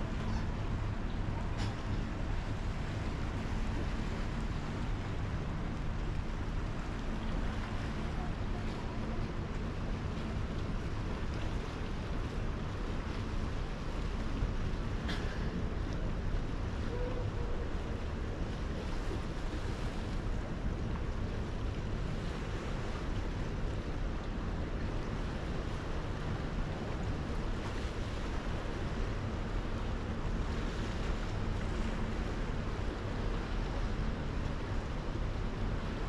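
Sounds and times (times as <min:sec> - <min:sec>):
sea rushing: 0:00.0 - 0:36.0.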